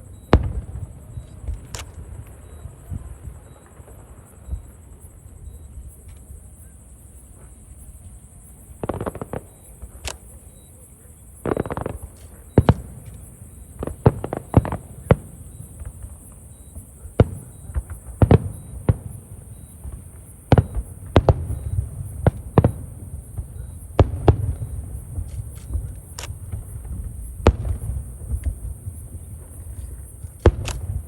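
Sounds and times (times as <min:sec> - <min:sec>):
fireworks booming: 0:00.0 - 0:05.5, 0:08.7 - 0:10.4, 0:11.4 - 0:31.0.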